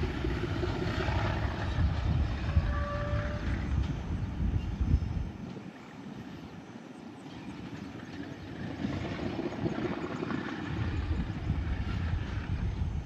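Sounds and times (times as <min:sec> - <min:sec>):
moving vehicle rumble: 0:00.0 - 0:06.6, 0:07.2 - 0:13.0.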